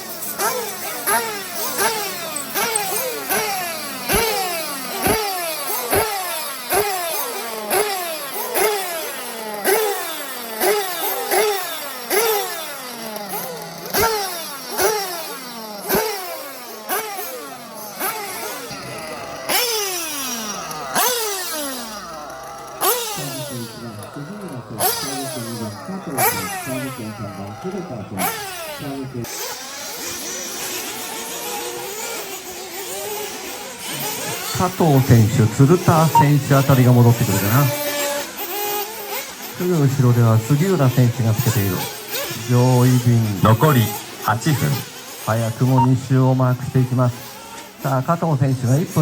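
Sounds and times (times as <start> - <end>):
small engines revving high: 0.0 - 49.0.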